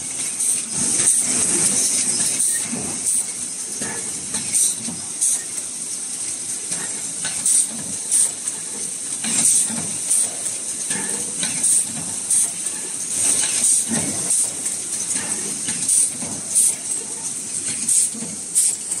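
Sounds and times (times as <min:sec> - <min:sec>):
machine hiss: 0:00.3 - 0:05.6, 0:06.6 - 0:19.0.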